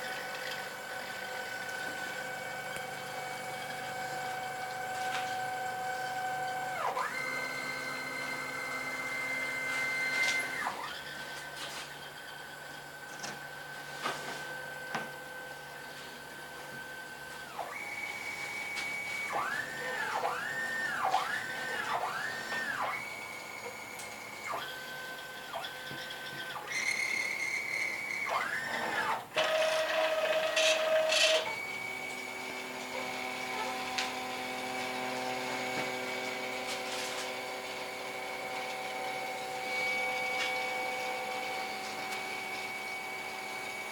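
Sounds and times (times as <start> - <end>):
cnc router motors whining: 0.0 - 43.9.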